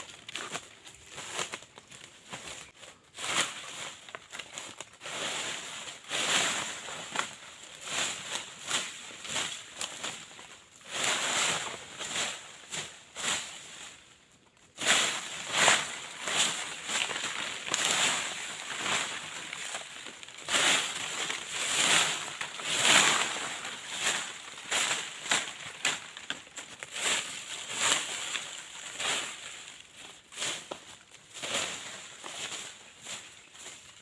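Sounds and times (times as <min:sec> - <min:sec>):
dry leaves rustling and crunching: 0:00.0 - 0:34.0.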